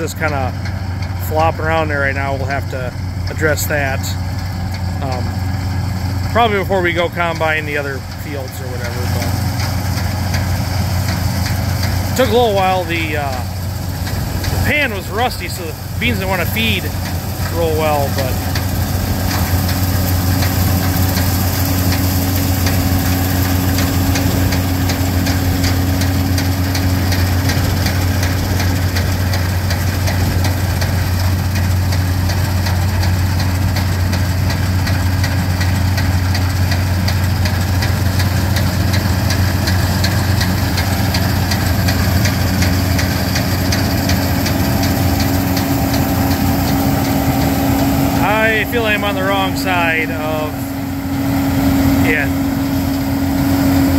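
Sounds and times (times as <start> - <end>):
combine harvester engine droning: 0.0 - 53.9.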